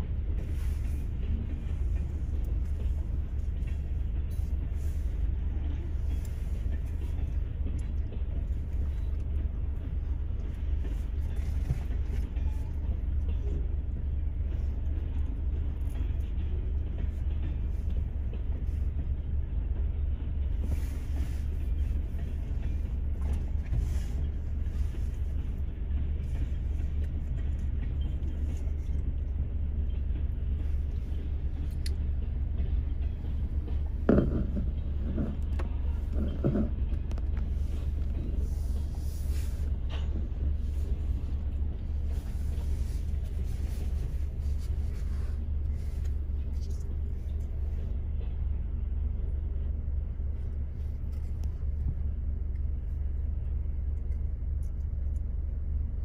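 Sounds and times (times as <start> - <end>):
freight cars rumbling: 0.0 - 56.0.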